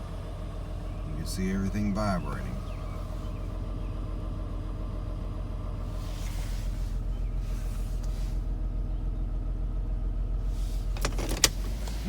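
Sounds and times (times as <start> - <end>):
misfiring car engine rumbling: 0.0 - 12.0.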